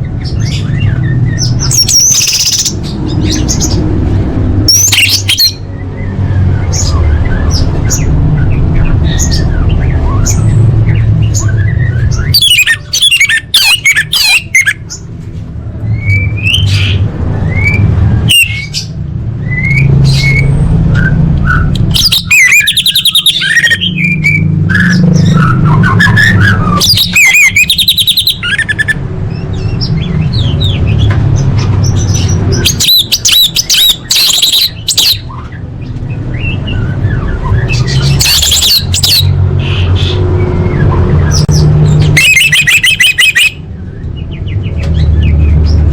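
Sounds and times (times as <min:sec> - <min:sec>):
bird singing and trilling: 0:00.0 - 0:45.9.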